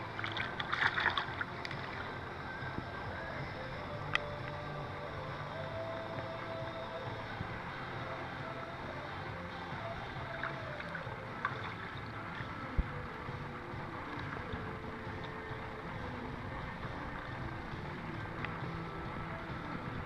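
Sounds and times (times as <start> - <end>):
background rumble: 0.0 - 20.0
pool water lapping and splashing: 0.0 - 20.0.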